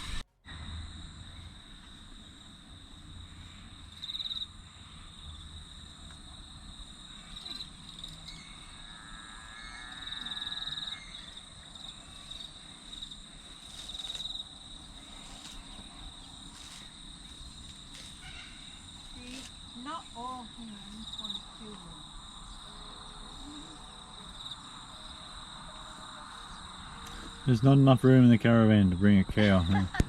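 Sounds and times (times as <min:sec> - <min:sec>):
louder pulsing insect trill: 0:00.0 - 0:30.0
insects trilling: 0:00.5 - 0:30.0.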